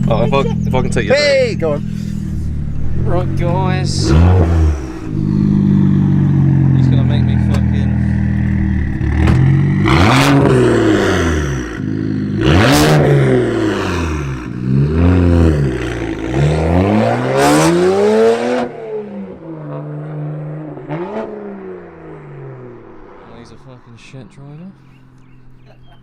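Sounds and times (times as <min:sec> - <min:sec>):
car engine revving: 0:00.0 - 0:25.6
loud sharp exhaust blasts: 0:01.3 - 0:24.6.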